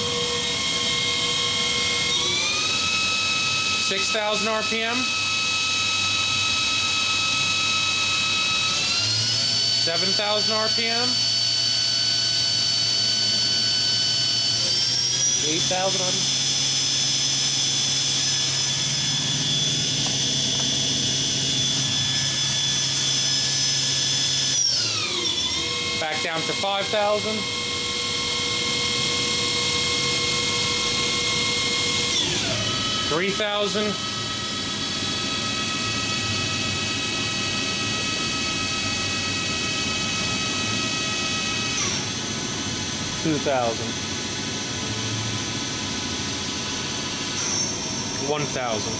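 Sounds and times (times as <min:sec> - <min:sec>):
machine spindle whine: 0:00.0 - 0:48.9.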